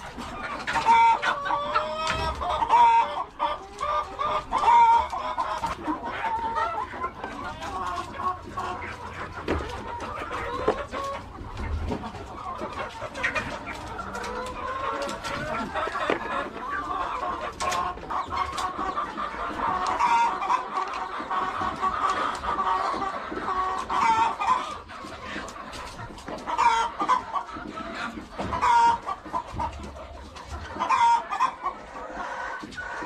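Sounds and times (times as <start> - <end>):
chicken squawks: 0.0 - 33.0
chickens clucking: 0.0 - 33.0.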